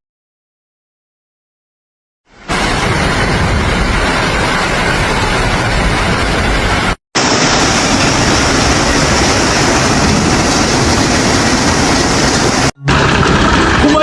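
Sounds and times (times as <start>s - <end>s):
loud steady rushing noise: 2.3s - 14.0s.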